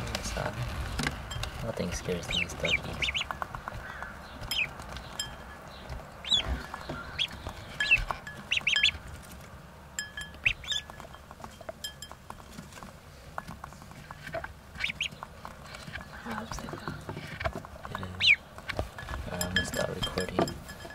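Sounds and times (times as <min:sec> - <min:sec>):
ducklings peeping: 0:00.0 - 0:20.9
faint pecking clicks: 0:01.0 - 0:09.6, 0:10.3 - 0:20.9.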